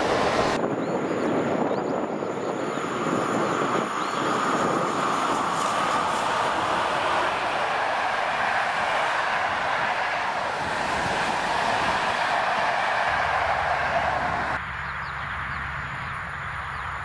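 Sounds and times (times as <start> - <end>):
train coaches rolling on rails: 0.0 - 14.6.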